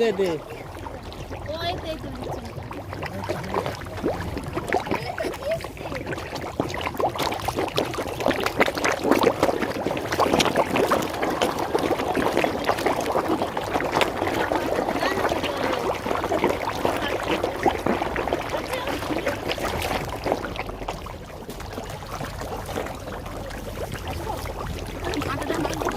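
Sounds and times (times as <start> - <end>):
fish thrashing water splashes: 0.0 - 25.9.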